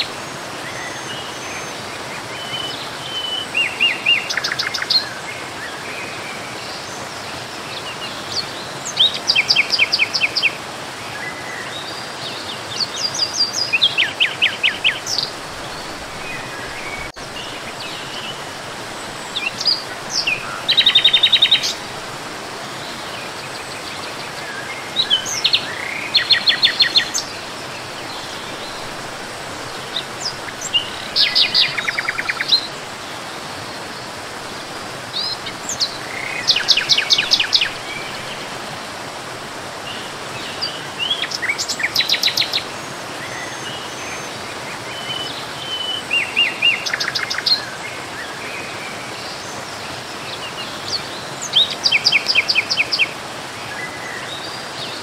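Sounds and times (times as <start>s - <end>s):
songbird singing: 0.0s - 55.0s
waterfall rushing: 0.0s - 55.0s.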